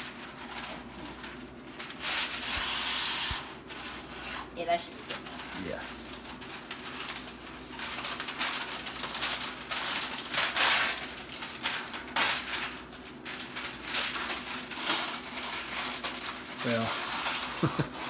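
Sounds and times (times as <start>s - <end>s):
parchment paper rustling: 0.0s - 18.0s.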